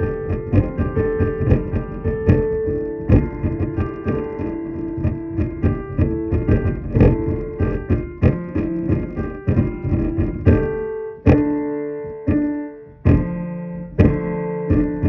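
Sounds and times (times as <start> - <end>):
electric keyboard piano notes: 0.0 - 15.0.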